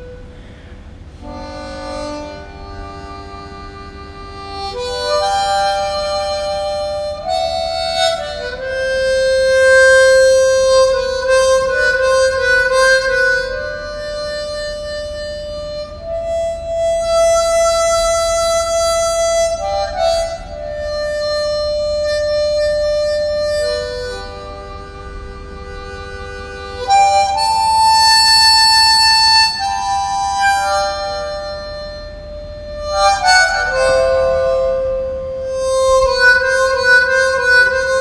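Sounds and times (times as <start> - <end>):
slow harmonica melody: 0.0 - 38.0.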